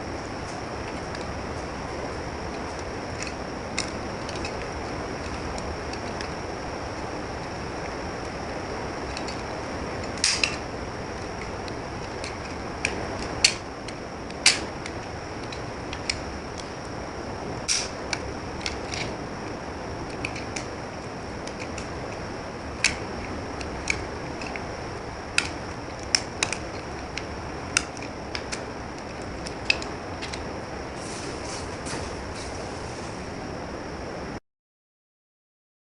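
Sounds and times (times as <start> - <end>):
steady hiss: 0.0 - 34.4.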